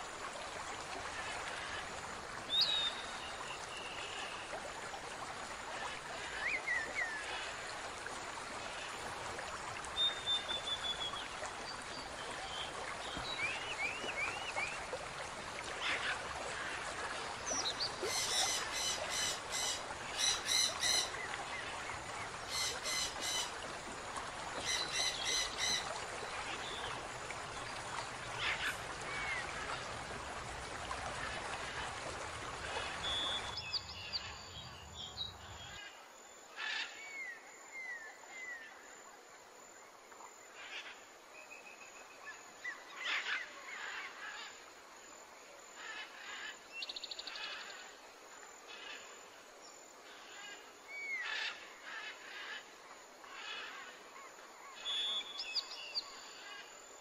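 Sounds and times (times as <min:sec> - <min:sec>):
running stream water: 0:00.0 - 0:57.0.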